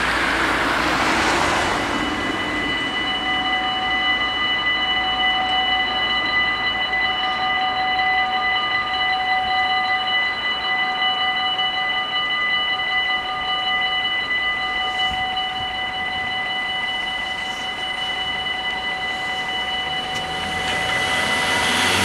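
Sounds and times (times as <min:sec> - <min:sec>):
level crossing warning bells: 0:00.0 - 0:22.0.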